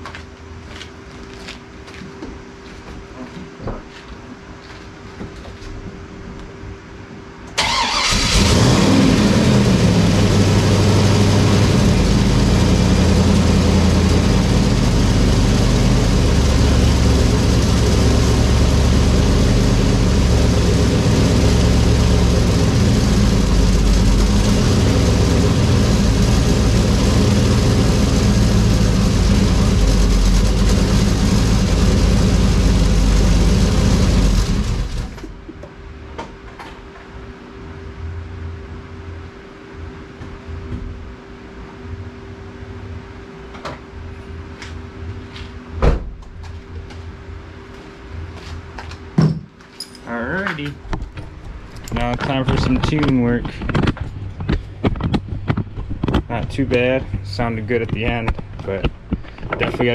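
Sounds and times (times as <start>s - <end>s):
engine running with uneven rumble: 7.6s - 49.0s, 50.1s - 59.9s.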